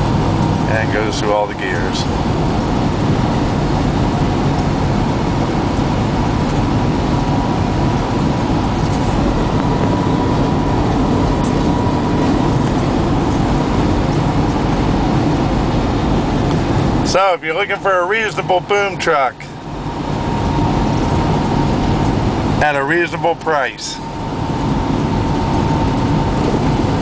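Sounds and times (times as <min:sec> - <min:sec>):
faint steady whine: 0:00.0 - 0:27.0
tire road noise: 0:00.0 - 0:27.0
truck engine cruising: 0:00.0 - 0:27.0.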